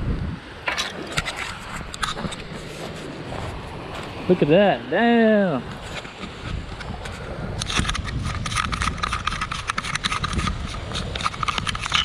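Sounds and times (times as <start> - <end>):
low wind rumble: 0.0 - 12.0.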